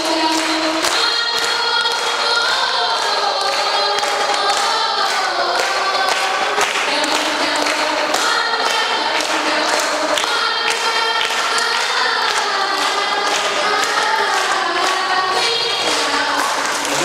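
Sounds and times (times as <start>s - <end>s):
hand claps: 0.0s - 17.0s
women singing together: 0.0s - 17.0s.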